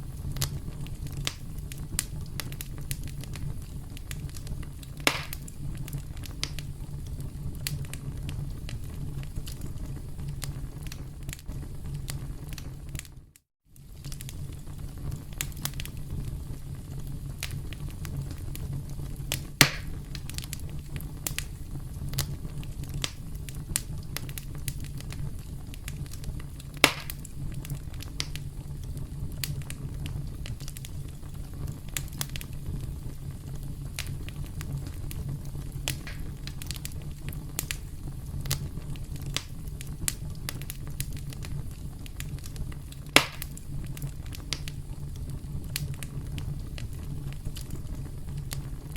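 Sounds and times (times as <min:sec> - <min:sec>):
sharp fire pops: 0:00.0 - 0:13.2, 0:13.8 - 0:48.9
campfire crackling: 0:00.0 - 0:48.9
low fire rumble: 0:00.0 - 0:48.9.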